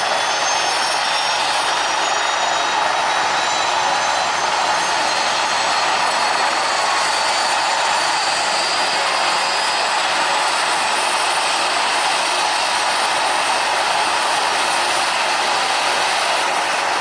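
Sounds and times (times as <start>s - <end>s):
faint high engine whine: 0.0s - 17.0s
jet engines rushing hiss: 0.0s - 17.0s.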